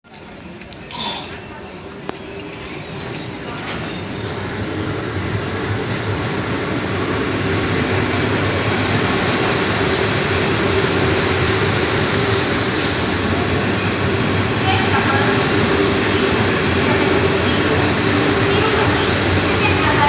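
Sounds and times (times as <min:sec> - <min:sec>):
electric train rumbling on rails: 0:00.1 - 0:20.0.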